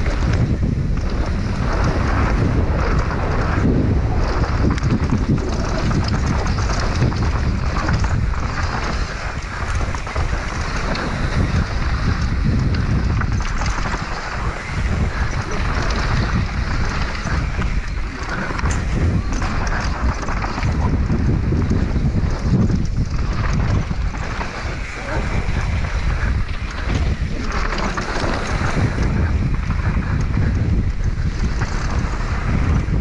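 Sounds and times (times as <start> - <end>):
bike rattling over bumps: 0.0 - 33.0
tyres rumbling on dirt trail: 0.0 - 33.0
wind buffeting microphone: 0.0 - 33.0.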